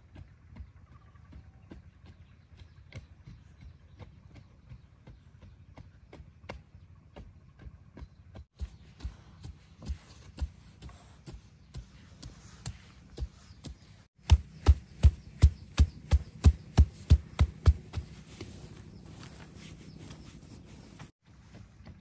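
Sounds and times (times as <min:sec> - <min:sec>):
dull thuds tamping soil: 0:00.0 - 0:22.0.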